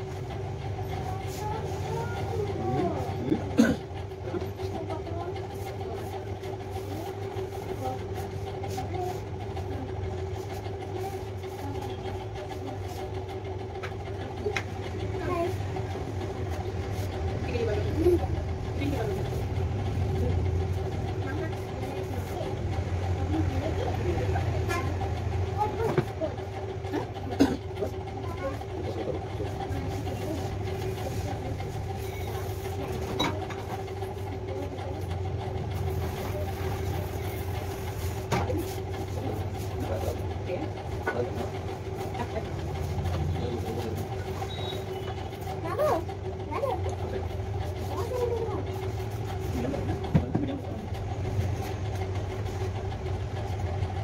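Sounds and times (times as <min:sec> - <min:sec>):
electrical machine hum: 0:00.0 - 0:54.0.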